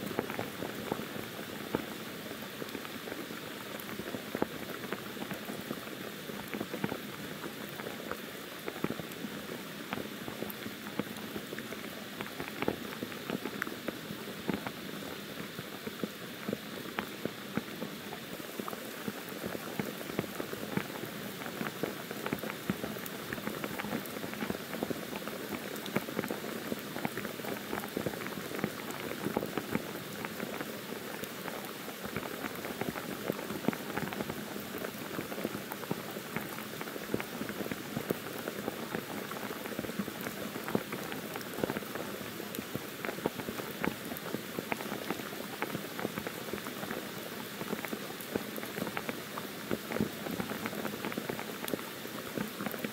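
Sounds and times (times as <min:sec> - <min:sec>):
raindrops ticking close by: 0:00.0 - 0:52.9.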